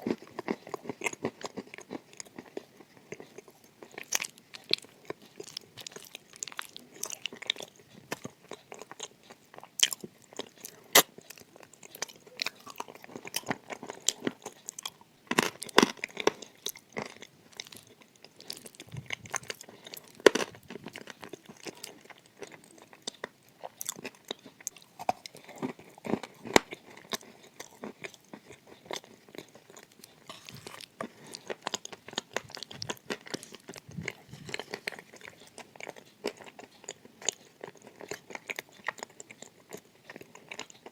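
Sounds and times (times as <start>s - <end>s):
person chewing crunchy clay: 0.0s - 40.9s.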